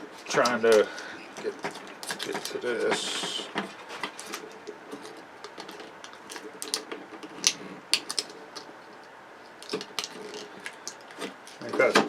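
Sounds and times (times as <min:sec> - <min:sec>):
hand tools and parts clattering: 0:00.0 - 0:12.0.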